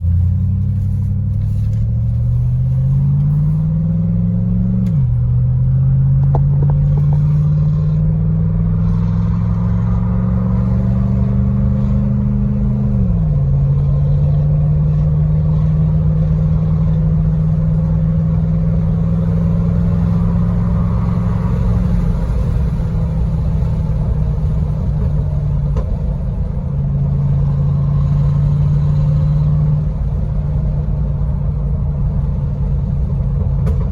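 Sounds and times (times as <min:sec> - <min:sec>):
loud car exhaust accelerating: 0:00.0 - 0:33.9.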